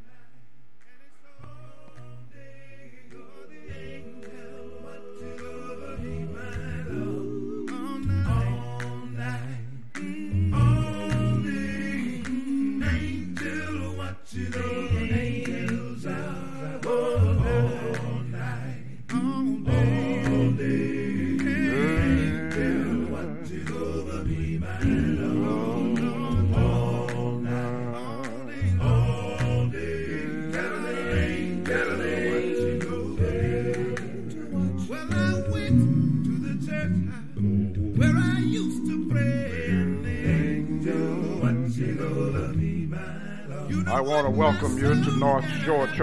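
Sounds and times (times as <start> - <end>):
group singing a hymn a cappella: 0.0 - 46.0.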